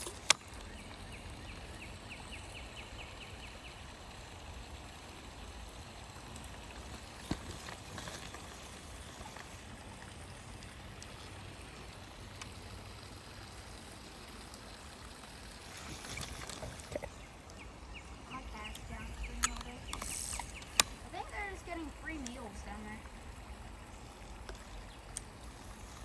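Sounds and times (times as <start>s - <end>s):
creek water flowing: 0.0s - 26.0s.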